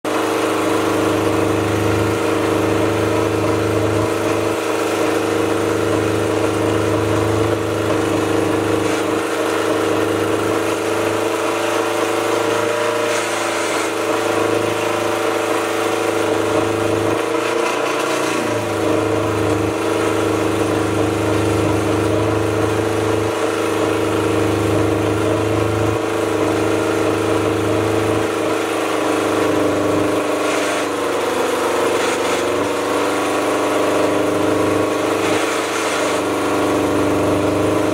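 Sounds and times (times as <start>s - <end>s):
speedboat engine running: 0.1s - 37.9s.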